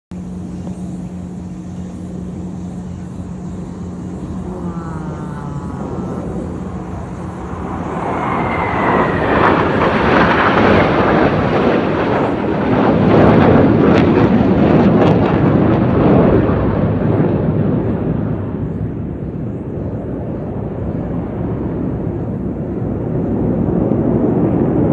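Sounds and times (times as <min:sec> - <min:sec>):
aircraft engine flying past: 0:00.1 - 0:24.9
falling whine: 0:00.1 - 0:24.9.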